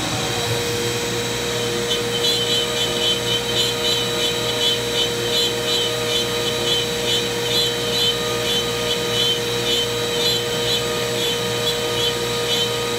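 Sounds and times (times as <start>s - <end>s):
dust extraction through hose: 0.0s - 12.9s
router spindle cutting wood: 0.0s - 12.9s.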